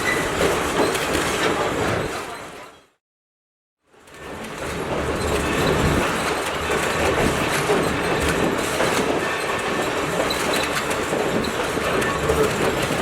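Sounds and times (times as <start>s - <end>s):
train wheels rumbling on rails: 0.0s - 2.8s, 3.9s - 13.0s.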